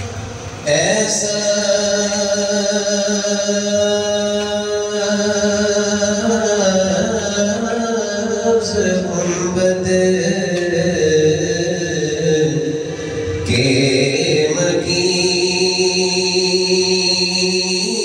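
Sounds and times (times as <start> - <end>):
person chanting through loudspeaker: 0.0 - 18.0.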